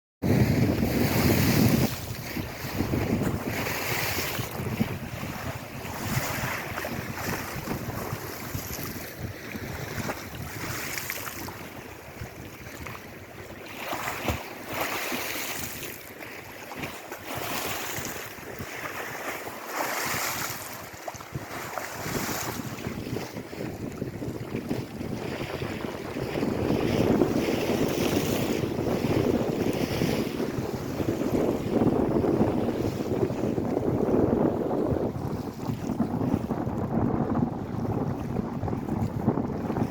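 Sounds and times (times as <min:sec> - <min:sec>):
waves washing onto shore: 0:00.2 - 0:39.9
wind buffeting microphone: 0:00.2 - 0:39.9.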